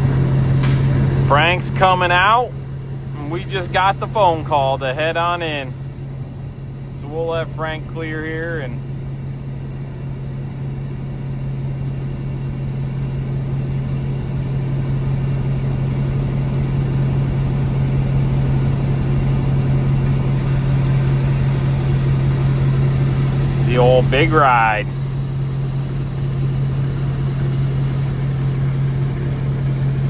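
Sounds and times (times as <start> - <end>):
truck diesel engine running: 0.0 - 12.1, 14.3 - 30.0.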